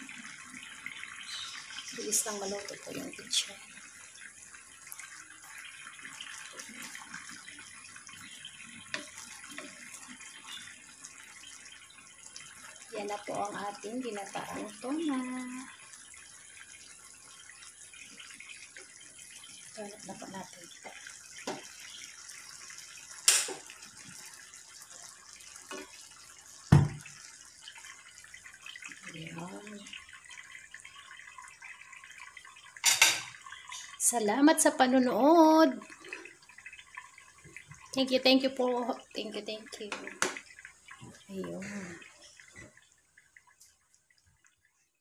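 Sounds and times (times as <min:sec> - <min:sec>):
stew bubbling in a pot: 0:00.0 - 0:45.0.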